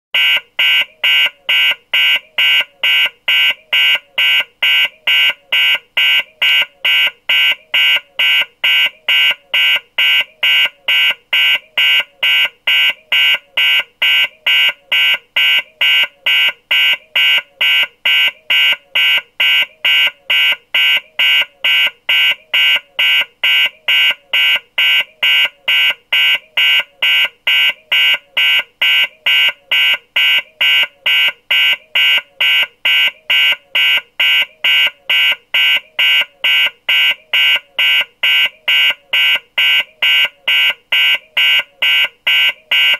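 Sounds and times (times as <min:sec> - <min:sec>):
electronic alarm beeping: 0:00.2 - 0:42.9.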